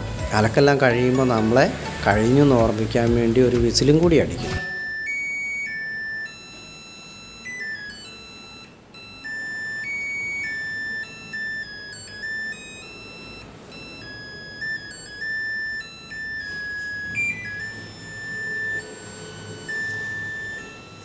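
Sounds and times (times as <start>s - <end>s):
washing machine beeper melody: 0.0s - 21.0s.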